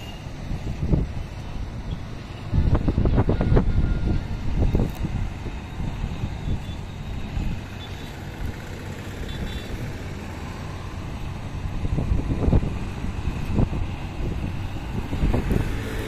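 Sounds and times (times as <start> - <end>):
wind rumbling on microphone: 0.1 - 16.0.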